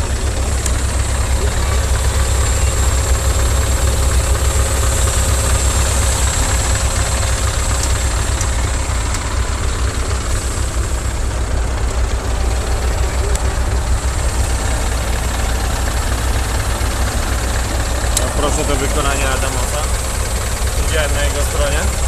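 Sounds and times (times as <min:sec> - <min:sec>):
truck diesel engine idling: 0:00.0 - 0:22.0.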